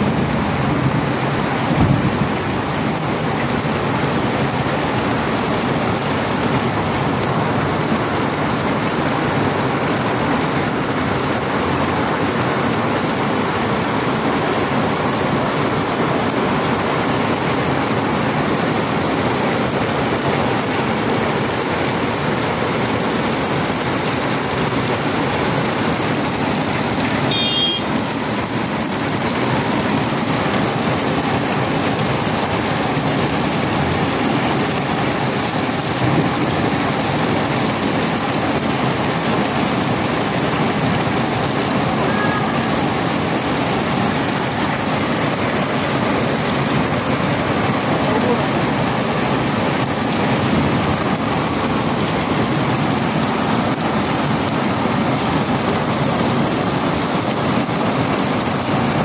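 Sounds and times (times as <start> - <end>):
heavy rain on pavement and cars: 0.0 - 59.0.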